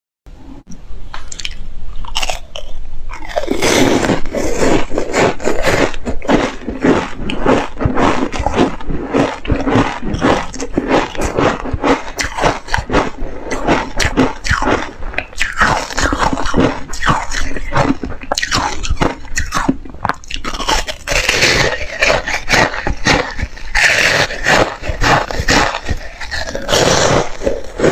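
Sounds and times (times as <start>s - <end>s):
ice being crunched by teeth: 1.3s - 27.9s.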